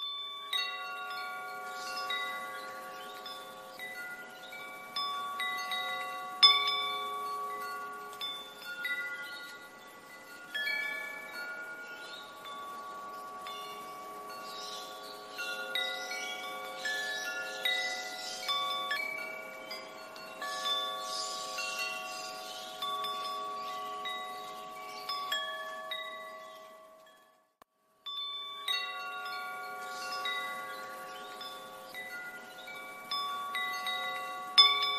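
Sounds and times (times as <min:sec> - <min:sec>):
wind chimes ringing: 0:00.0 - 0:34.9.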